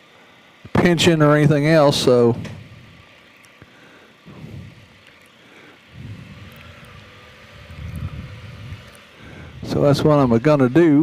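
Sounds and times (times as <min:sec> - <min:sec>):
engine rumbling at low revs: 0:00.9 - 0:11.0.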